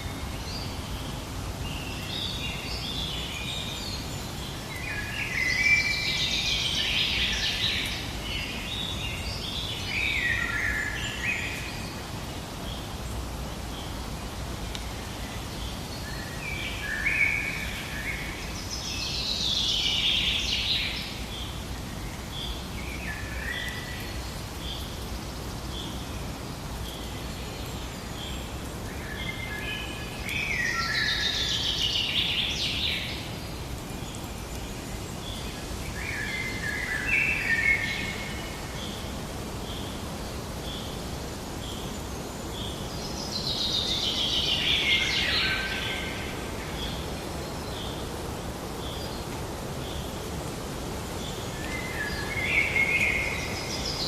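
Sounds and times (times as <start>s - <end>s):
constant low hiss: 0.0s - 54.0s
songbirds singing: 0.0s - 54.0s.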